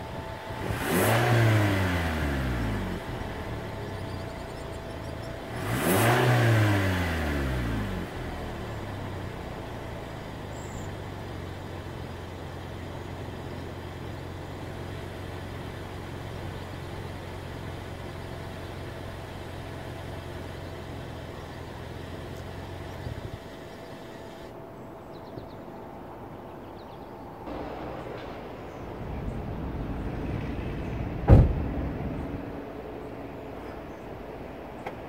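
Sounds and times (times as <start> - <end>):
car engine revving: 0.0 - 24.5, 27.5 - 35.0
car engine idling: 0.0 - 25.2, 27.5 - 35.0.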